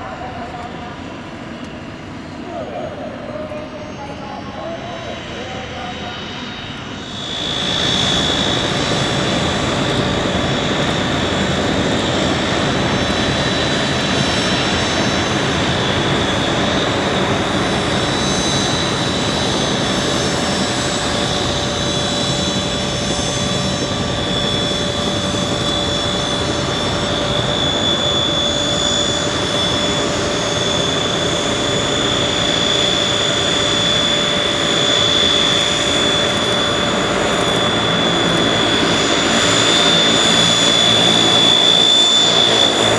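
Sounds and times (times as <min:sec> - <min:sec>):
aircraft turbine engines running: 0:00.0 - 0:42.9.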